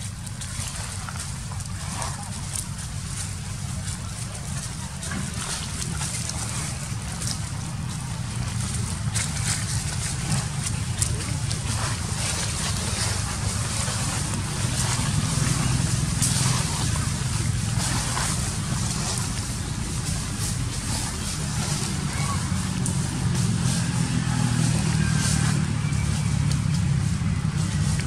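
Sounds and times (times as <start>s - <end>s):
dry leaves rustling and crackling: 0.0s - 28.0s
steady low rumble: 0.0s - 28.0s.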